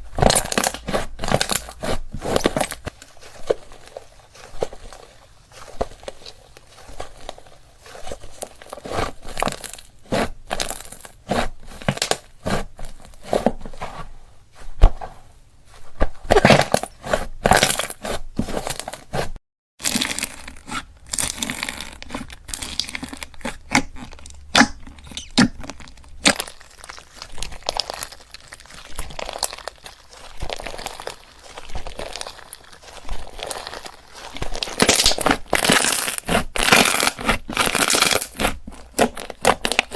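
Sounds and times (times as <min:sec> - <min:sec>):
slime crackling and popping: 0:00.1 - 0:12.2, 0:19.8 - 0:39.9.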